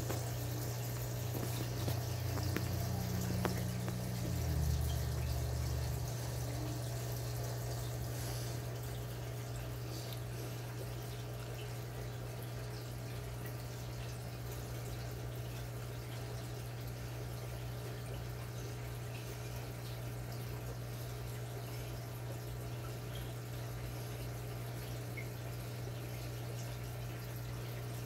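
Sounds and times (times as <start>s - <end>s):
aquarium filter hum: 0.0s - 28.0s
water trickling and dripping: 0.0s - 28.0s.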